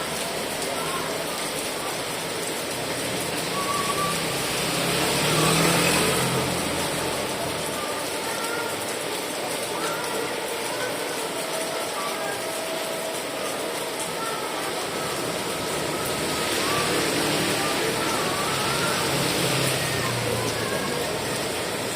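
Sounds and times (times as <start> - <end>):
faint voices: 0.0 - 21.9
steady rain hiss: 0.0 - 21.9.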